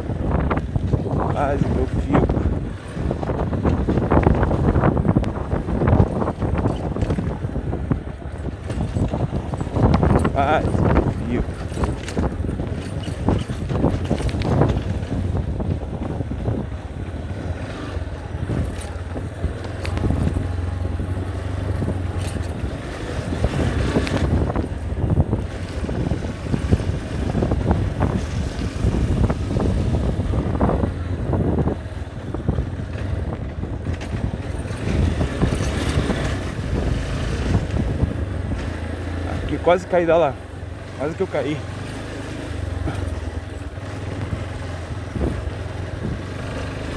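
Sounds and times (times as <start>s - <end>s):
knocks and rattles: 0.0s - 46.9s
motorcycle engine running: 0.0s - 46.9s
wind buffeting microphone: 0.0s - 46.9s.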